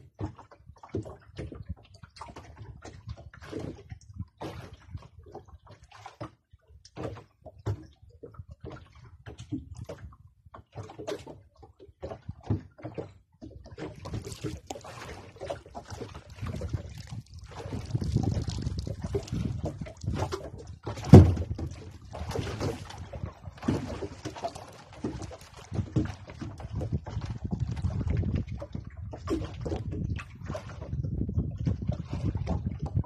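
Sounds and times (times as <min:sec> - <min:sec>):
water slapping against boat hull: 0:00.0 - 0:33.0.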